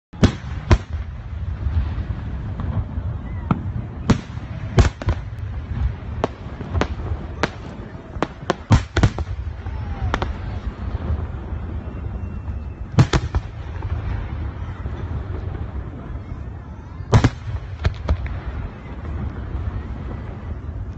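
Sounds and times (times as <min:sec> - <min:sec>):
fireworks bursting with sharp bangs: 0:00.2 - 0:20.9
steady low rumble: 0:00.2 - 0:20.9.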